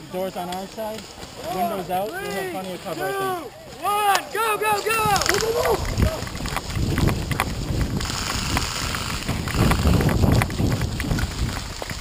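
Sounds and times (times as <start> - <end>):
running footsteps on grass: 0.0 - 12.0.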